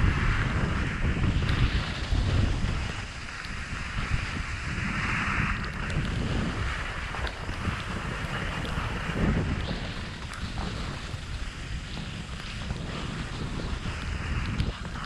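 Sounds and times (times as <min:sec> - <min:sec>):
hiss of sliding on snow: 0:00.0 - 0:15.0
wind buffeting microphone: 0:00.0 - 0:15.0.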